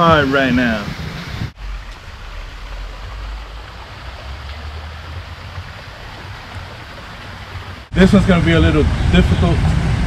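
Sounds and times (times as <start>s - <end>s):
water rushing and splashing: 0.0s - 10.0s
low rumble: 1.0s - 10.0s.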